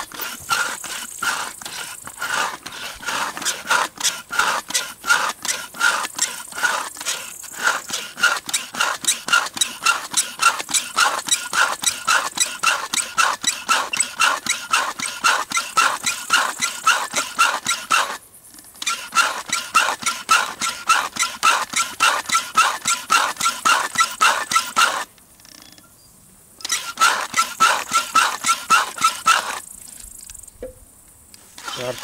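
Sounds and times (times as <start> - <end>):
electric tyre inflator pulsing: 0.0 - 18.2, 18.8 - 25.1, 26.7 - 29.6.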